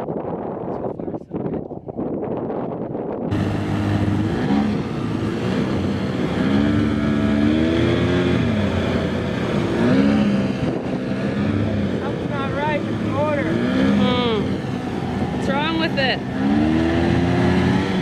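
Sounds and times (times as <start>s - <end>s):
outboard boat motor revving: 3.0s - 18.0s.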